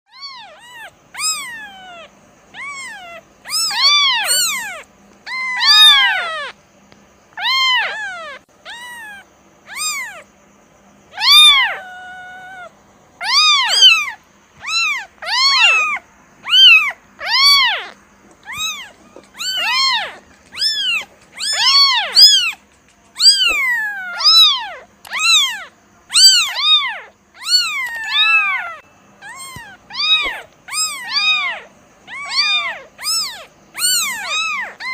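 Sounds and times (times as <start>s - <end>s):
kitten meowing: 0.1s - 6.6s, 7.3s - 10.3s, 11.1s - 34.9s.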